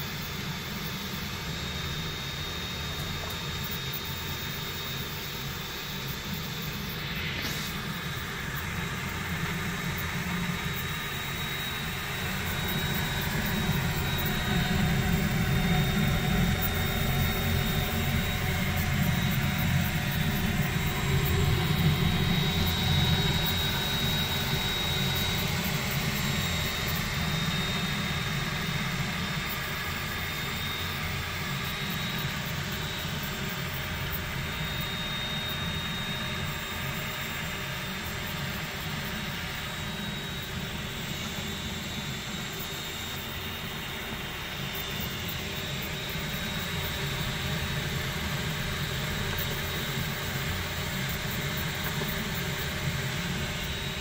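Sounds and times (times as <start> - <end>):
thin high whine: 0.0 - 54.0.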